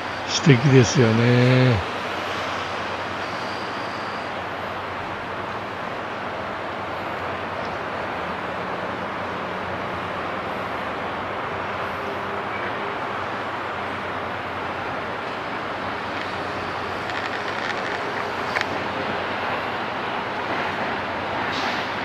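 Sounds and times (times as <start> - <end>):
city traffic hum: 0.0 - 22.0.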